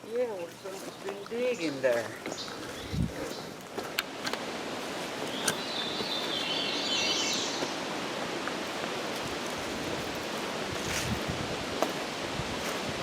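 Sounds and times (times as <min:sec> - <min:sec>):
wind rustling trees: 0:00.0 - 0:13.0.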